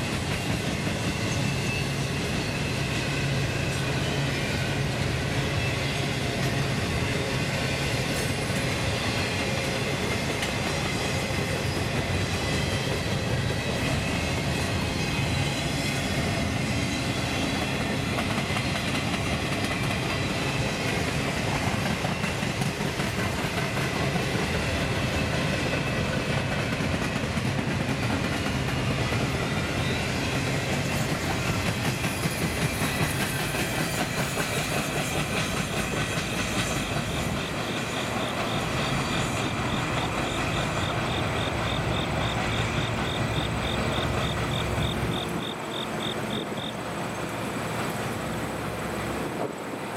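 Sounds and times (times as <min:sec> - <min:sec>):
rushing rolling noise of train: 0:00.0 - 0:49.9
train wheels clicking over rail joints: 0:00.0 - 0:49.9.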